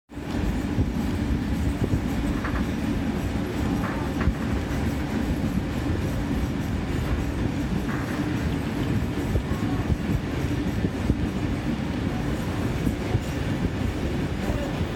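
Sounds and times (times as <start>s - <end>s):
train wheels rumbling on rails: 0.1s - 14.9s.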